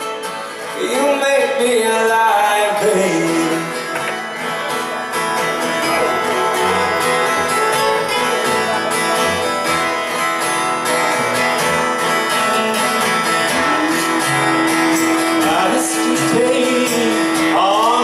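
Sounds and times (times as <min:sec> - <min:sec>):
strummed guitars: 0:00.0 - 0:18.0.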